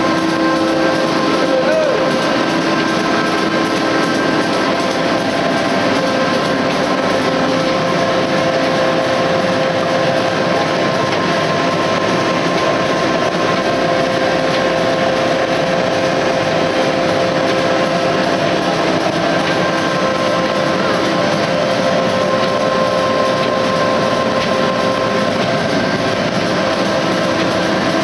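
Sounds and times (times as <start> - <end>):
printing press running: 0.0 - 28.0
whining motor tones: 0.0 - 28.0.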